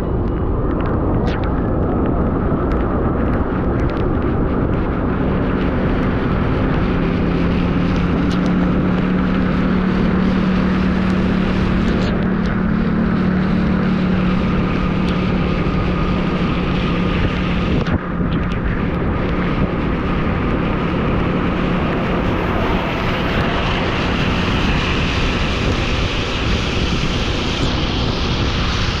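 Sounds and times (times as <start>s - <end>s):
vehicle engine droning: 0.0s - 29.0s
wind and road noise: 0.0s - 29.0s.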